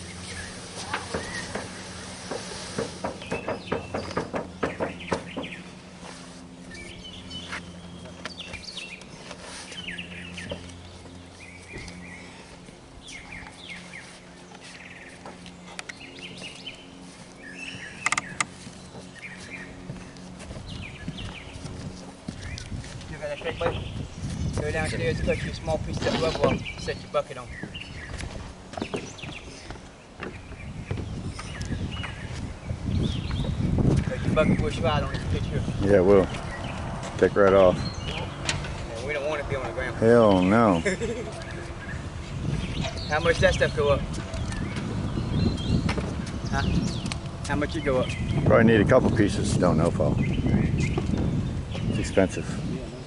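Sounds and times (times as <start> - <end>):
birds chirping: 0.0 - 53.0
steady low hum: 0.0 - 53.0.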